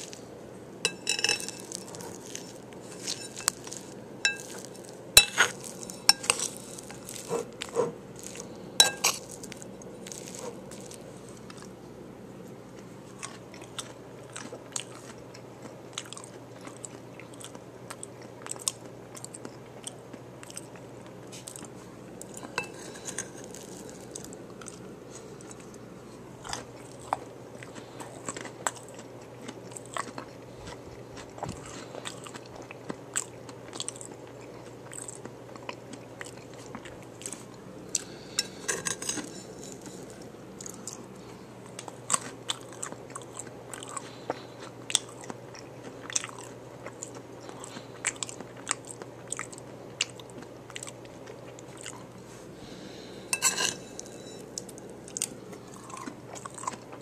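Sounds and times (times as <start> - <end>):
chewing crunchy taco shell: 0.0 - 11.8, 12.5 - 53.0, 53.8 - 57.0.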